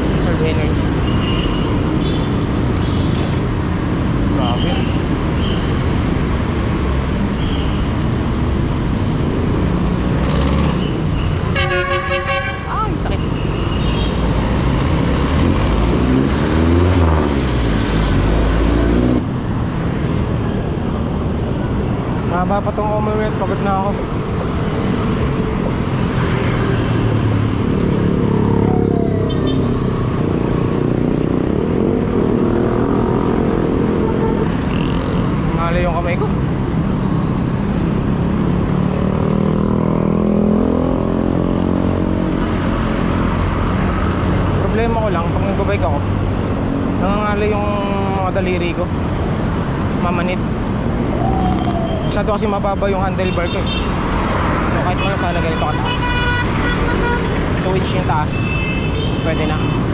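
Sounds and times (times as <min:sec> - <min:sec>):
heavy road traffic: 0:00.0 - 0:59.9.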